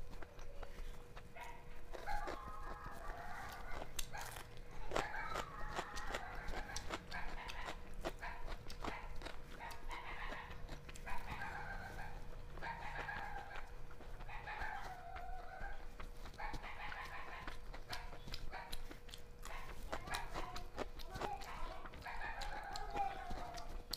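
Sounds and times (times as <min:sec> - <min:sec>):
faint steady hum: 0:00.0 - 0:23.9
wet chewing and lip-smacking: 0:00.0 - 0:23.9.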